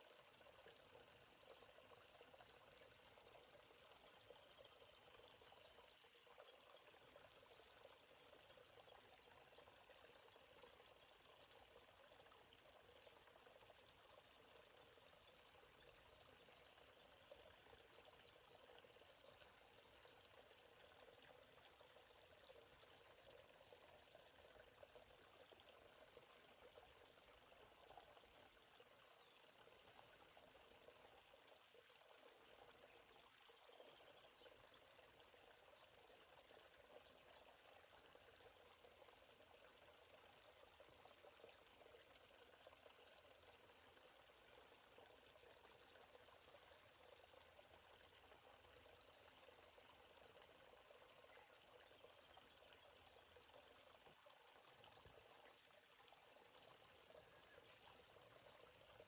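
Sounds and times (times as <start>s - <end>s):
insects chirping: 0.0s - 59.0s
stream water running: 0.0s - 59.0s.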